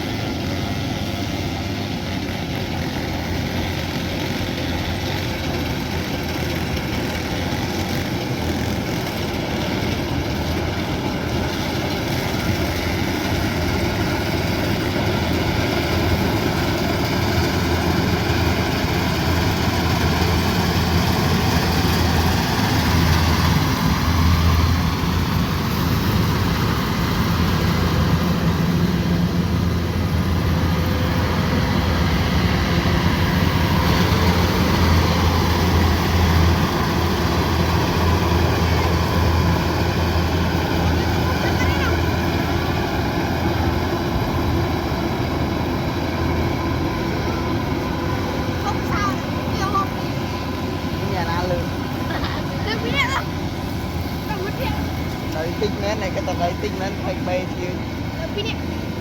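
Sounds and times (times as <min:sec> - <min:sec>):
combine harvester diesel engine: 0:00.0 - 0:59.0
threshing machinery running: 0:00.0 - 0:59.0.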